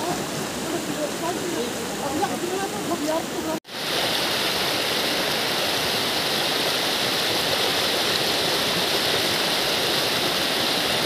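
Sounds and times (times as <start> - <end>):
water rushing over rock: 0.0 - 11.0.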